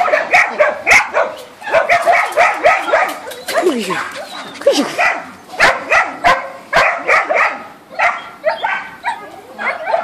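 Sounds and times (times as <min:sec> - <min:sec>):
dog barking: 0:00.0 - 0:04.1, 0:04.8 - 0:10.0.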